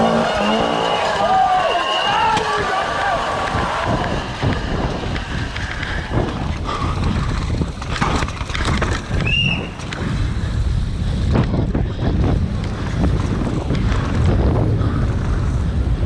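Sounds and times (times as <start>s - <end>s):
bike clattering over bumps: 0.0s - 16.0s
wind buffeting the microphone: 1.3s - 16.0s.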